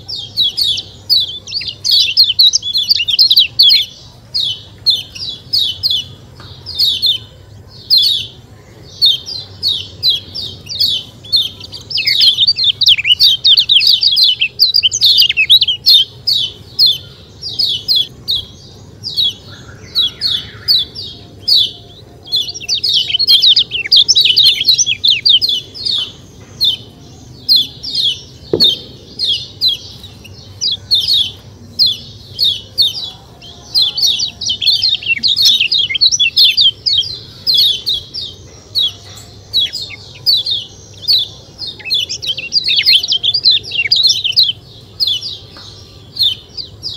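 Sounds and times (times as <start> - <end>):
bird chirping high sharp calls: 0.0 - 46.9.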